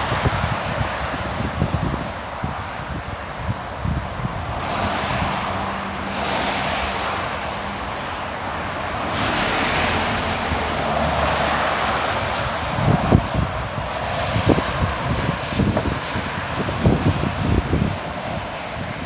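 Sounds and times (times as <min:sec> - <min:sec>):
tyres hissing on wet road: 0:00.0 - 0:19.0
wind buffeting microphone: 0:00.0 - 0:19.0.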